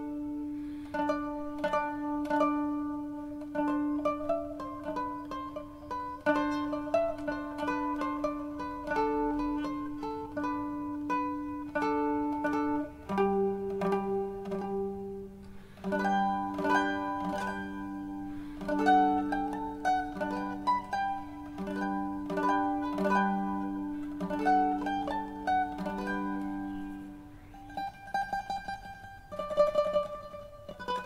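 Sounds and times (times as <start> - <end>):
mandolin melody: 0.0 - 31.0.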